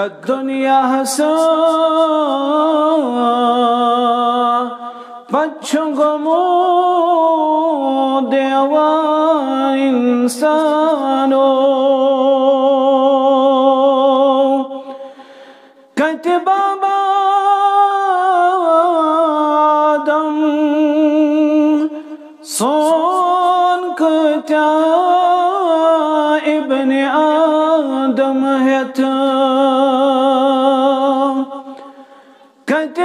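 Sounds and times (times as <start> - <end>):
man singing unaccompanied: 0.0 - 14.9, 15.9 - 31.8, 32.6 - 33.0.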